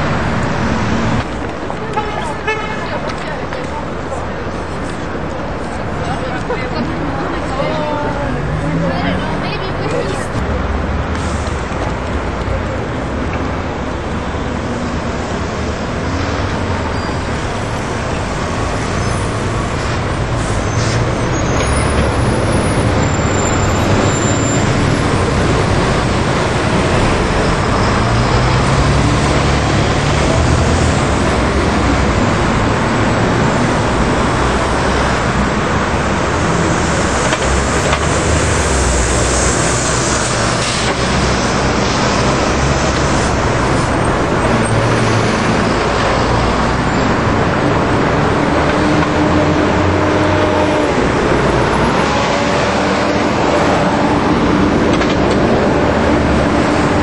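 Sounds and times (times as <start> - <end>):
bus pulling away: 0.0 - 57.0
buses and cars passing: 0.0 - 57.0
diesel engines running: 0.0 - 57.0.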